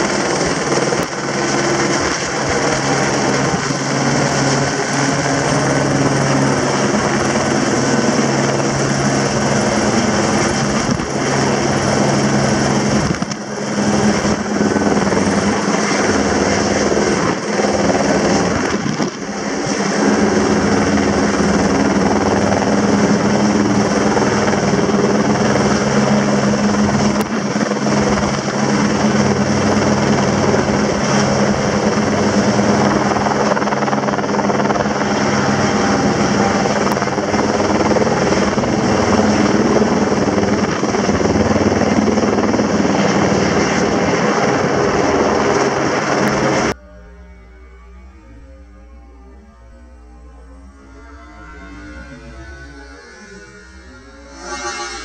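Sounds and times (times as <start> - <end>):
helicopter rotor and engine: 0.0 - 54.5.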